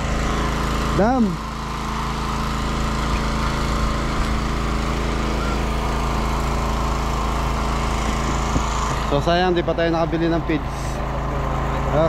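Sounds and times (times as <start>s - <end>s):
small water pump engine running: 0.0s - 12.0s.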